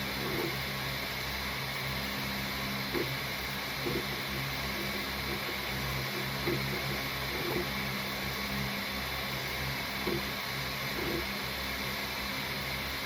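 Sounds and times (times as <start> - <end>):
small motor humming: 0.0 - 13.0.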